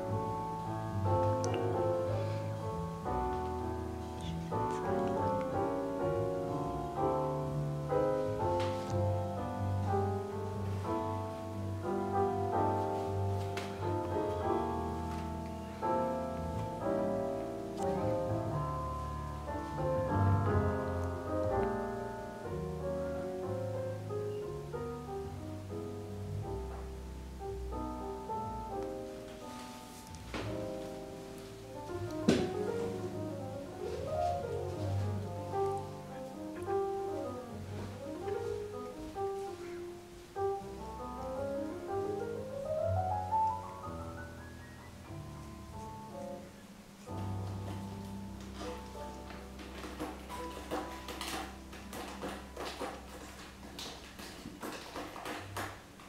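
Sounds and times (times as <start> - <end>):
classical piano music: 0.0 - 56.0.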